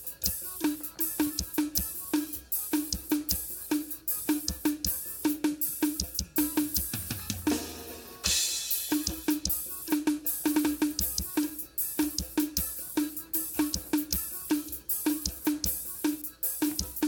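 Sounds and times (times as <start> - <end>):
cymbals: 0.0 - 17.0
drum fill: 0.0 - 17.0
snare and kick drum groove: 0.0 - 17.0.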